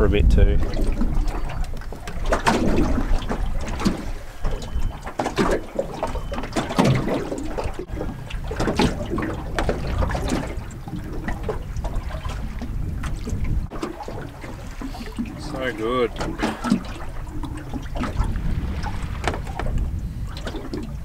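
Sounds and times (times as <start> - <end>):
waves lapping against boat hull: 0.0 - 21.0
wind rumble on microphone: 0.0 - 21.0.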